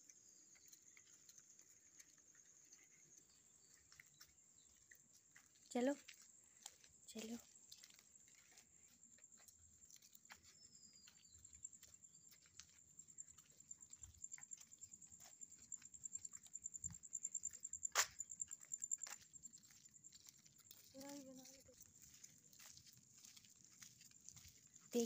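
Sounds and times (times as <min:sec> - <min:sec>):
footsteps on dirt: 0:00.0 - 0:25.0.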